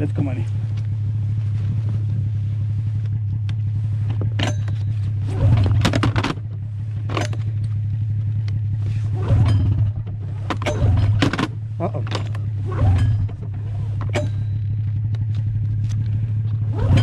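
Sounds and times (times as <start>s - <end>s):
snowmobile engine idling: 0.0s - 17.0s.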